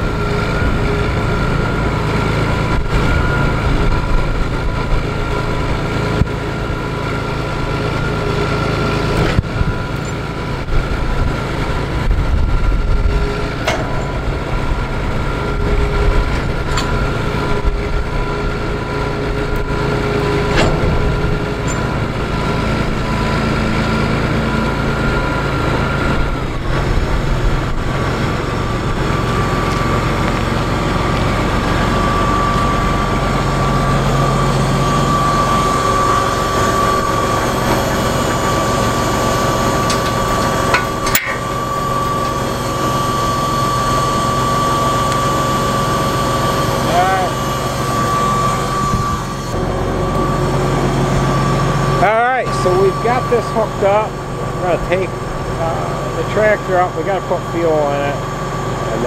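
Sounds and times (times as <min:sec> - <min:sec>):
high whine: 0:00.0 - 0:59.0
tractor diesel engine running: 0:00.0 - 0:59.0.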